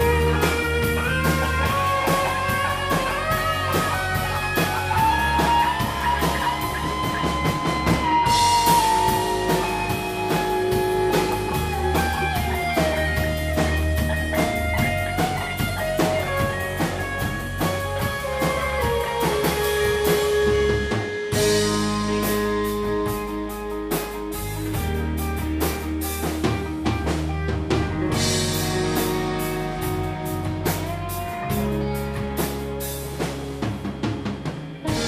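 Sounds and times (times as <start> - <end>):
bass guitar: 0.0 - 35.0
drum kit with cymbals: 0.0 - 35.0
electric guitar lead: 0.0 - 35.0.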